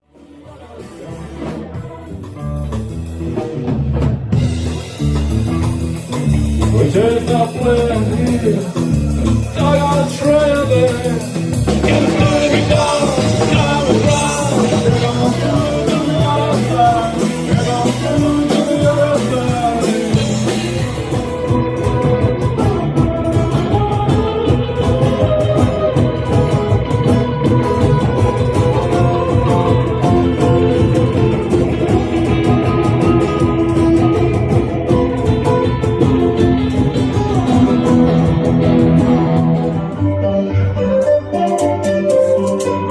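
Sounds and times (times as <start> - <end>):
rock and roll band: 0.0 - 42.9
person singing: 6.4 - 42.9.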